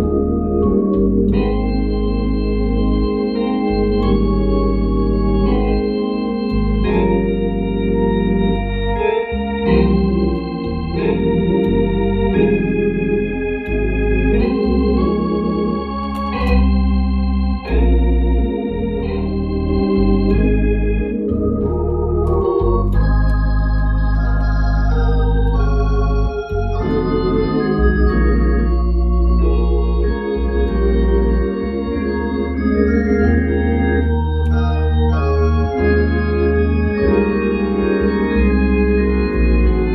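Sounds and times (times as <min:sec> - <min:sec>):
organ playing gospel chords: 0:00.0 - 0:39.9.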